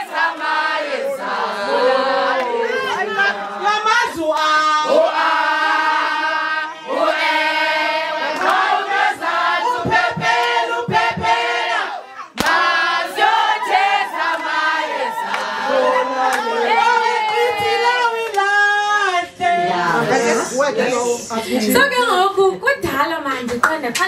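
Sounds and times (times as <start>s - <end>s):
crowd singing in chorus: 0.0s - 21.8s.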